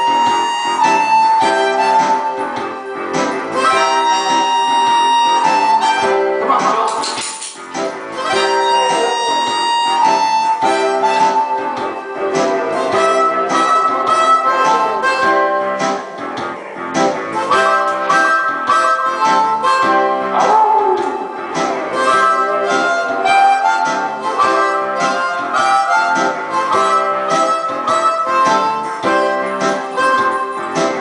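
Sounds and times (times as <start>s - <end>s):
amplified blues harmonica: 0.0s - 7.0s, 7.6s - 31.0s
backing music with steady beat: 0.0s - 31.0s.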